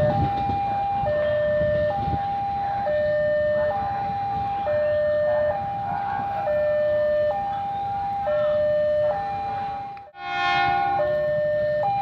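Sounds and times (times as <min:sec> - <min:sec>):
level crossing alarm two-tone: 0:00.0 - 0:12.0
low train rumble: 0:00.0 - 0:12.0.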